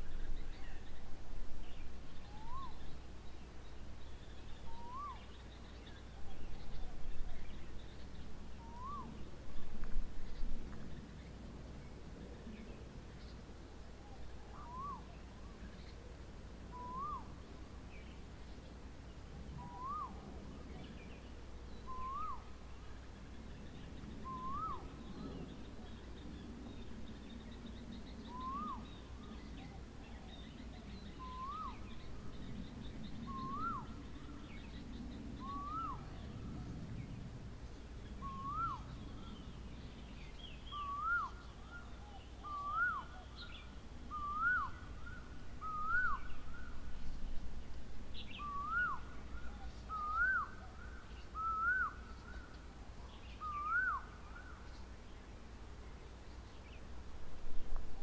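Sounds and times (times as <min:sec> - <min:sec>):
faint high bird chirps: 0:00.0 - 0:11.4, 0:12.2 - 0:16.1, 0:16.7 - 0:18.8, 0:19.5 - 0:37.0, 0:38.0 - 0:47.5, 0:48.1 - 0:55.3.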